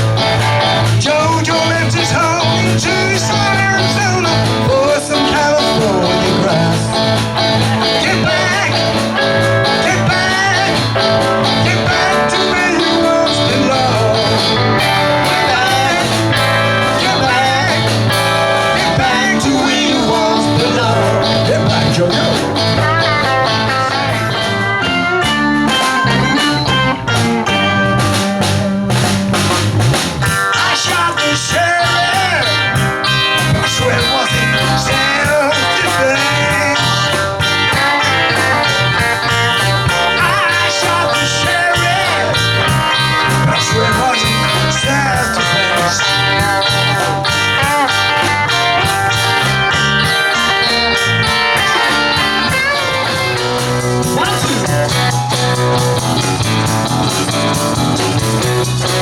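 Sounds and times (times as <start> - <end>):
bass guitar: 0.0 - 59.0
drums: 0.0 - 59.0
lead guitar solo: 0.0 - 59.0.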